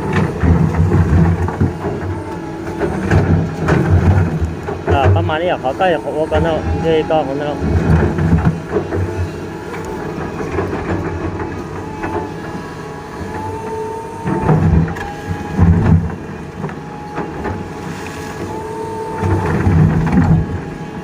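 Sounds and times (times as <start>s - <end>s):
excavator diesel engine rumbling: 0.0s - 21.0s
thin whine: 0.0s - 21.0s.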